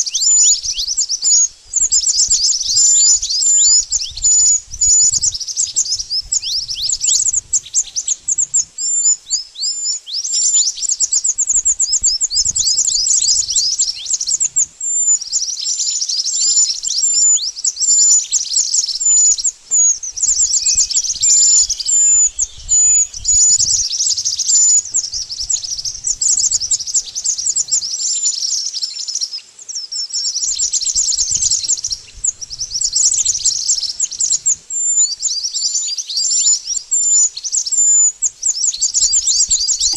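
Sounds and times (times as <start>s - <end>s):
bird chirping in fast bursts: 0.0s - 29.4s, 30.2s - 39.9s.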